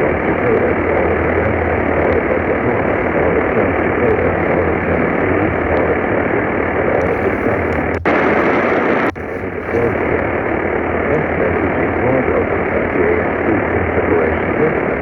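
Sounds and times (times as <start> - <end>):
low hum: 0.0 - 15.0
radio static hiss: 0.0 - 15.0.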